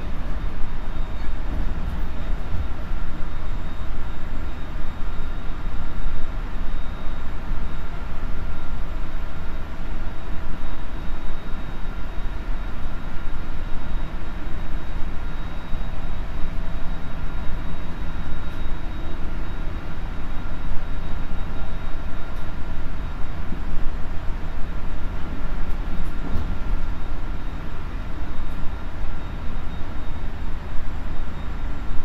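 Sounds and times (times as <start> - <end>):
faint high motor whine: 0.0 - 32.0
train running low rumble: 0.0 - 32.0.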